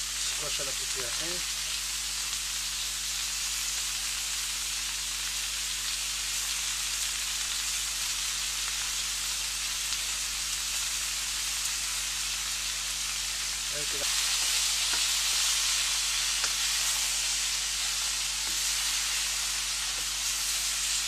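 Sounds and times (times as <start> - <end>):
vegetables sizzling in pan: 0.0 - 21.0.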